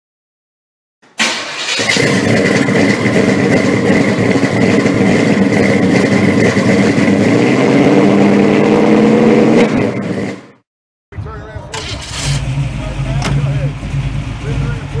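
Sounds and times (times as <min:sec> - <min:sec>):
car engine running loudly: 0:01.6 - 0:10.6, 0:11.2 - 0:15.0.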